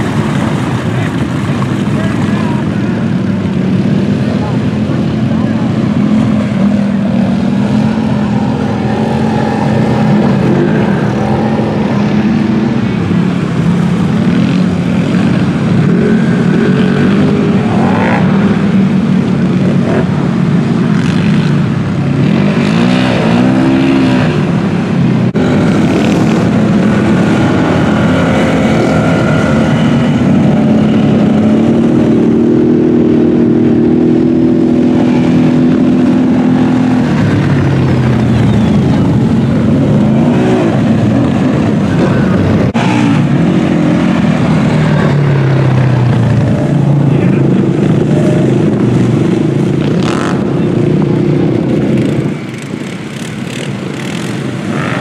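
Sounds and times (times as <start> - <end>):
off-road vehicle engines revving: 0.0 - 55.0.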